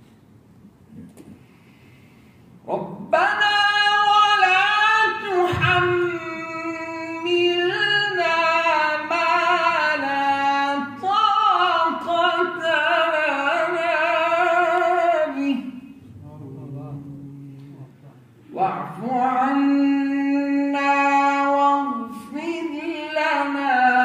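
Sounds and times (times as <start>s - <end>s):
man chanting melodically: 2.7s - 24.0s.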